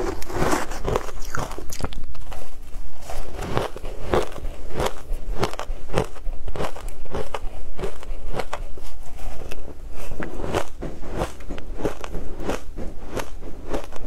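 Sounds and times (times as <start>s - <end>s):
chewing crushed ice: 0.0s - 14.0s.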